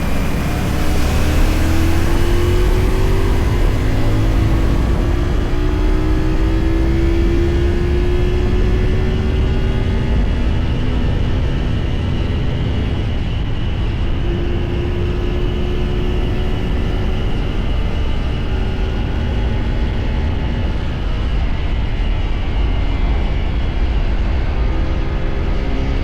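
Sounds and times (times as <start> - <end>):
motorcycle engine running: 0.0 - 21.4
wind rush on microphone: 0.0 - 26.0.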